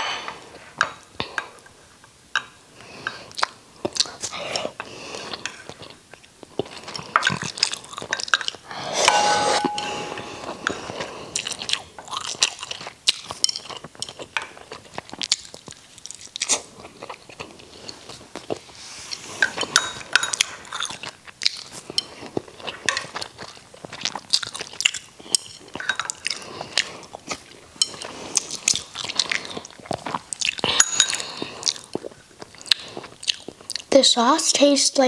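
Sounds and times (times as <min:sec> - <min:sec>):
chewing and mouth sounds: 0:02.4 - 0:08.6, 0:10.6 - 0:33.9.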